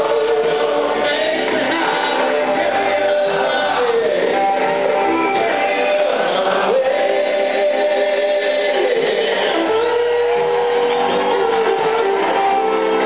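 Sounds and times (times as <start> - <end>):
man singing: 0.0 - 12.0
live rock band playing: 0.0 - 13.0.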